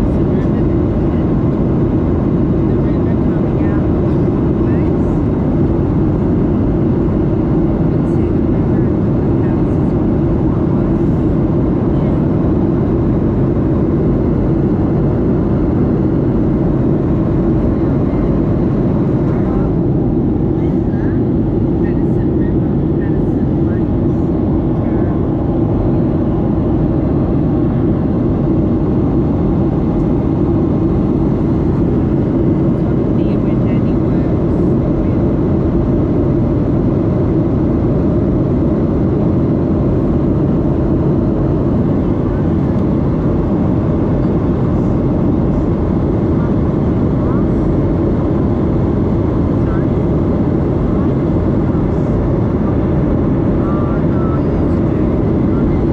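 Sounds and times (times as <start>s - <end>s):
airplane cabin engine drone: 0.0s - 55.9s.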